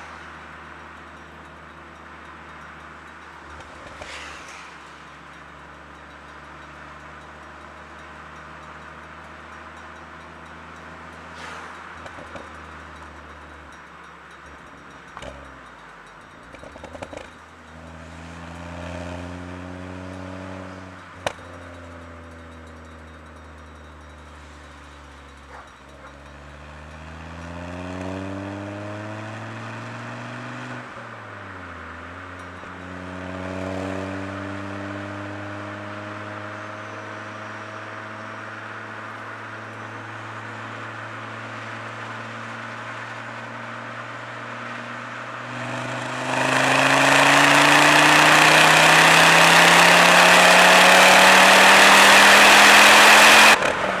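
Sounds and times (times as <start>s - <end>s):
car engine and exhaust at low revs: 0.0s - 54.0s.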